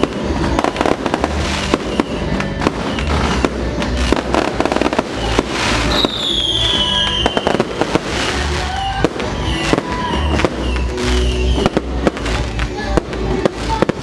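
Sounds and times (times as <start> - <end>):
falling firework whistle: 0.0 - 12.1
fireworks crackling pops: 0.0 - 14.0
music with heavy low beat: 0.0 - 14.0.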